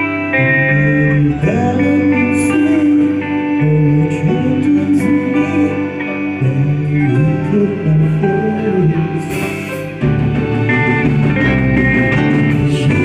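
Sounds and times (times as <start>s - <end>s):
guitar-led band music: 0.0s - 13.0s.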